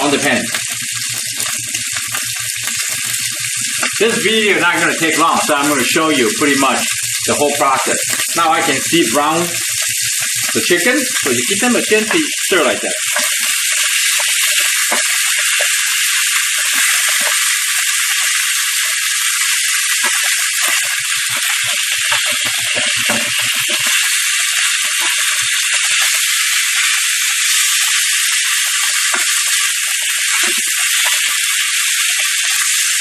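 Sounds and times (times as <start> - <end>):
chicken sizzling in a frying pan: 0.0 - 33.0.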